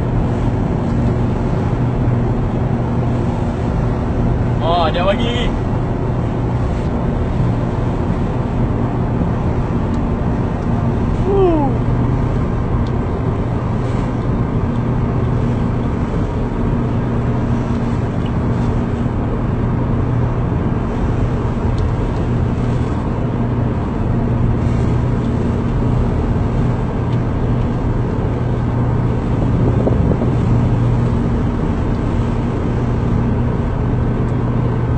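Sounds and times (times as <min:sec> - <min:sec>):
ship engines droning: 0:00.0 - 0:34.9
wind and sea rushing: 0:00.0 - 0:34.9.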